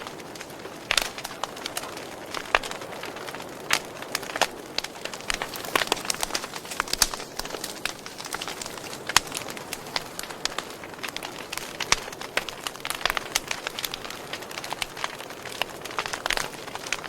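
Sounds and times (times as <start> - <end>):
fire crackling and popping: 0.0 - 17.0
fire hissing: 0.1 - 17.0.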